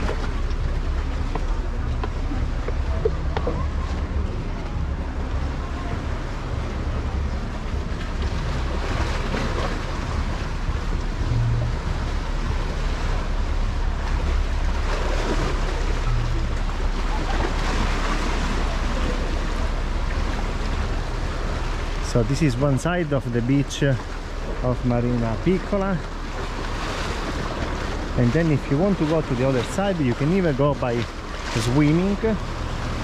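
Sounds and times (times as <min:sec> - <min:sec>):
sea waves washing onto beach: 0:00.0 - 0:33.0
wind rumble on microphone: 0:00.0 - 0:33.0.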